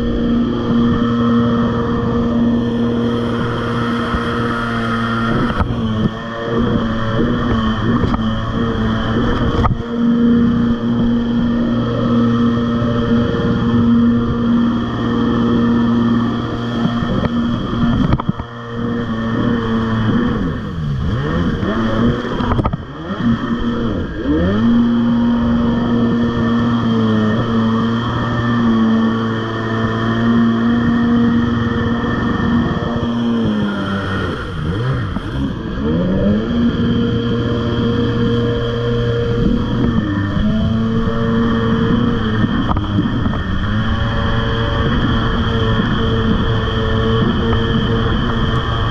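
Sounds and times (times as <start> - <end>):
jet ski engine running at speed: 0.0 - 48.9.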